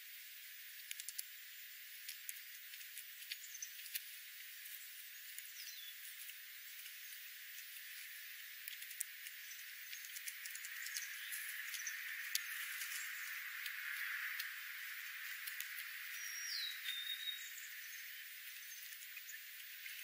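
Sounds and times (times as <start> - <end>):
steady hiss: 0.0 - 20.0
birds pecking on gravel: 0.8 - 20.0.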